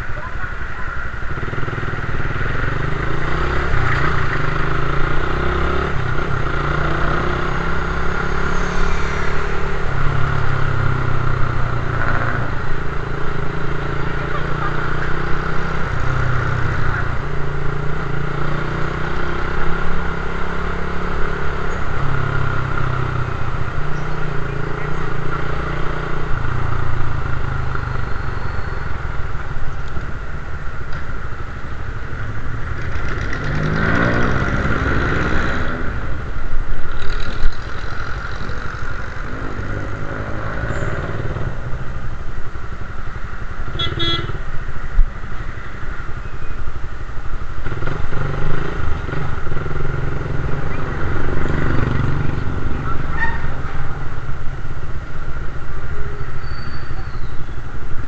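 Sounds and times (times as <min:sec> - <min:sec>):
motorcycle engine revving: 0:01.1 - 0:30.7, 0:31.3 - 0:42.2, 0:47.6 - 0:55.6.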